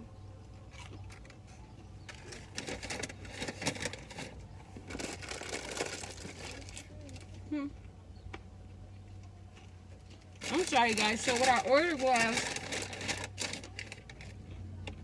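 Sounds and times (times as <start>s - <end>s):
crunchy chewing of fries: 0.0s - 15.0s.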